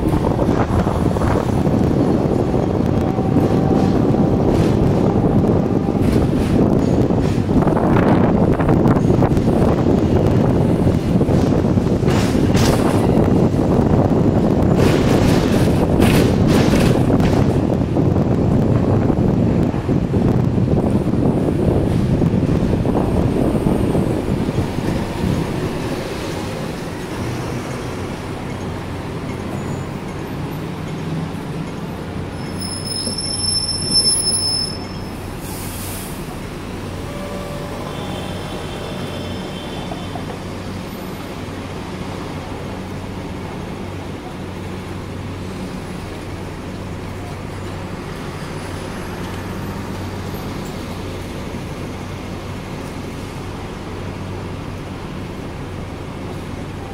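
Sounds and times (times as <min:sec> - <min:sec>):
tram motor hum: 0:00.0 - 0:56.9
wheels rumbling on rails: 0:00.0 - 0:56.9.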